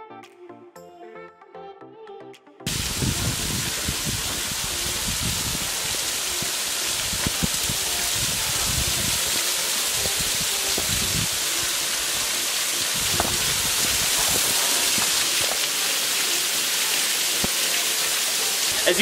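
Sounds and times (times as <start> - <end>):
water rushing: 2.7 - 19.0.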